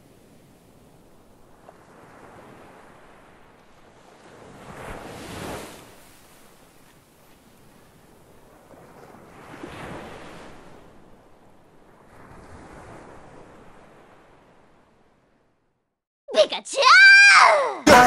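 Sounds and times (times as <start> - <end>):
ocean waves washing: 0.0 - 15.6.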